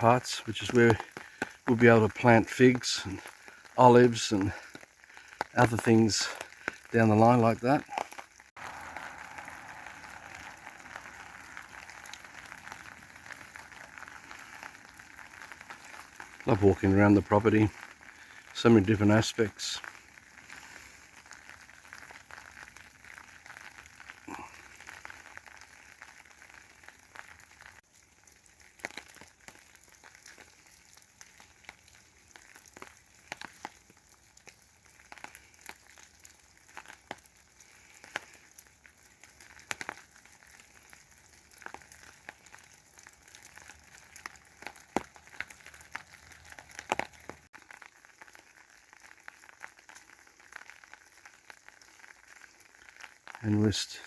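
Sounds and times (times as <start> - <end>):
light rain hiss: 0.0 - 54.0
raindrops ticking on umbrella: 0.0 - 54.0.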